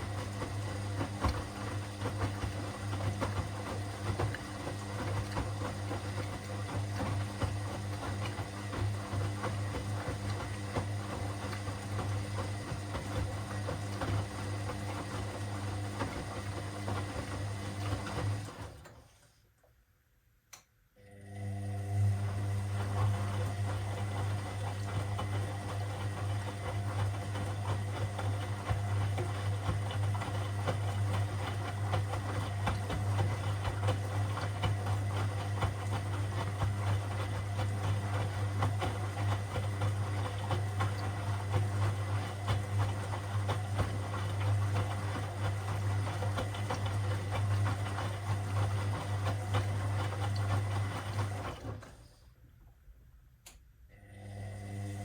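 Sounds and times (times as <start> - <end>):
washing machine running: 0.0 - 19.2, 21.0 - 52.3, 53.9 - 55.0.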